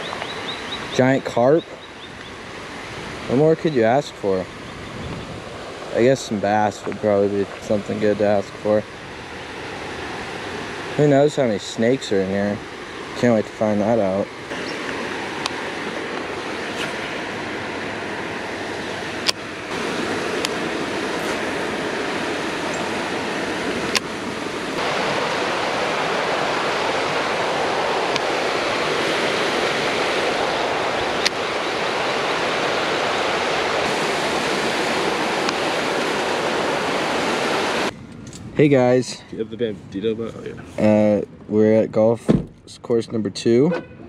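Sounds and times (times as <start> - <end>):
water rushing over spillway: 0.0 - 4.7, 5.4 - 37.9.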